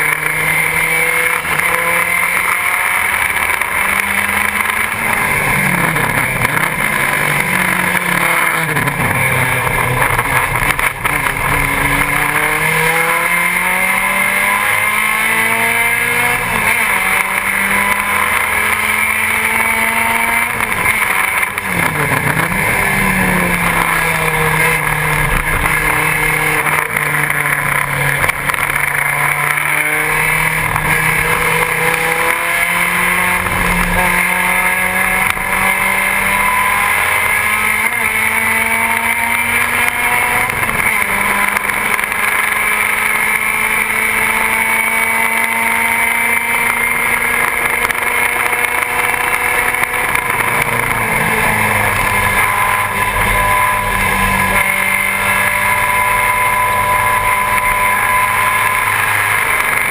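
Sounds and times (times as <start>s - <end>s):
race car engine at full throttle: 0.0s - 59.9s.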